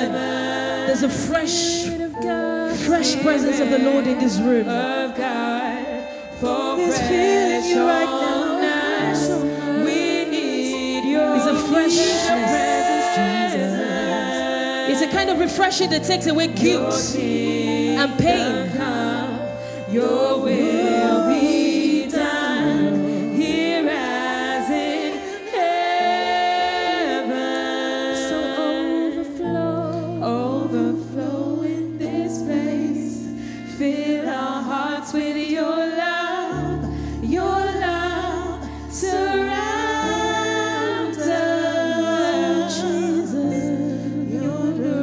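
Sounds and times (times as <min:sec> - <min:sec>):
backing singers: 0:00.0 - 0:45.0
keyboard chords: 0:00.0 - 0:45.0
woman singing lead: 0:00.0 - 0:45.0.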